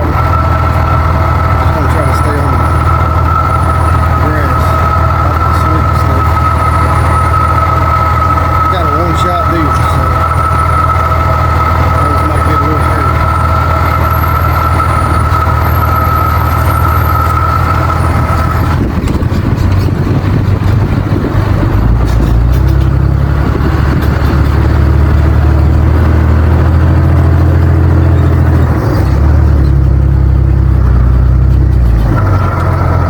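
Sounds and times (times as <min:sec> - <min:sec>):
steady high whine: 0:00.0 - 0:31.4
truck engine running: 0:00.0 - 0:33.0.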